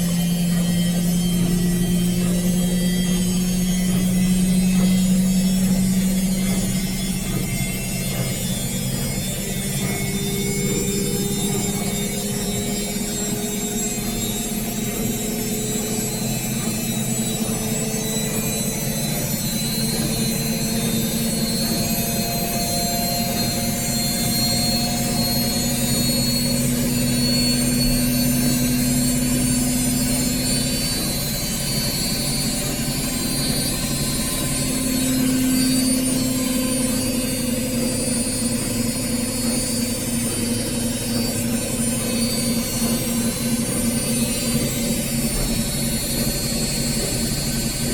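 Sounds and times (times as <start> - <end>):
washing machine spinning: 0.0 - 47.9.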